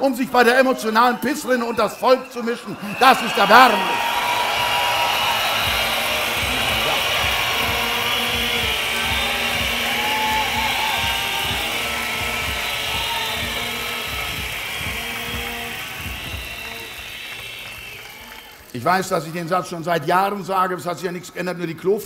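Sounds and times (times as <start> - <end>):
crowd applauding and cheering: 0.0 - 19.5
wavering held tones from crowd: 0.5 - 18.8.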